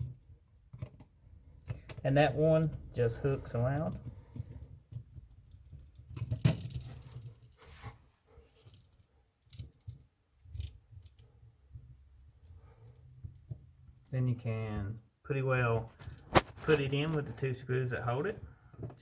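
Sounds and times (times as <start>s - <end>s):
outlet and wires clicking and rattling: 0.0s - 7.7s, 8.4s - 14.8s, 15.8s - 19.0s.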